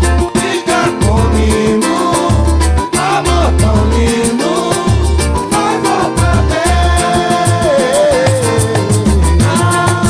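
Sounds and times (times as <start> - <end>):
heavy low drum beats: 0.0 - 2.8, 3.4 - 10.0
quick high percussion strikes: 0.0 - 10.0.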